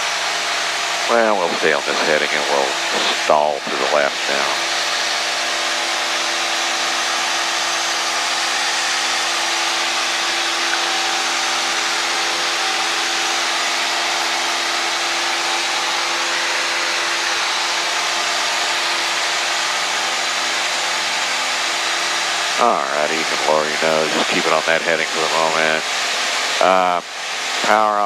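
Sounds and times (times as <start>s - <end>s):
propeller engine drone: 0.0s - 28.0s.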